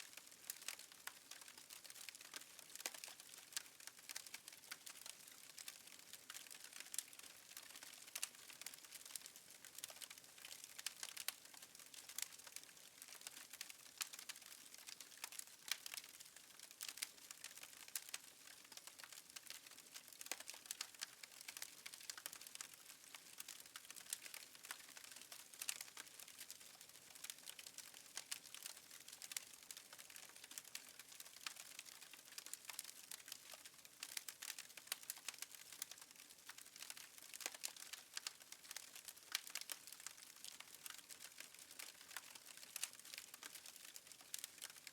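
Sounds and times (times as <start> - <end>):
wood fire crackling: 0.1 - 44.9.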